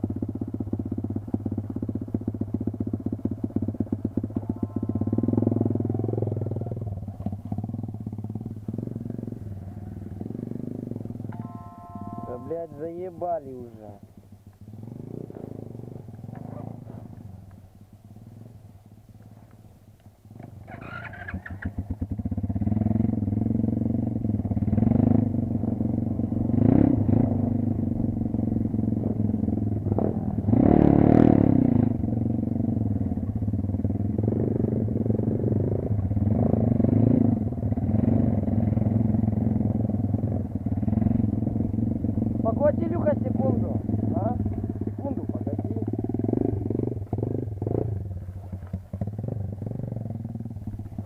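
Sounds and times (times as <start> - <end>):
dirt bike engine starting and revving: 0.2 - 11.5, 12.2 - 17.4, 20.3 - 51.0.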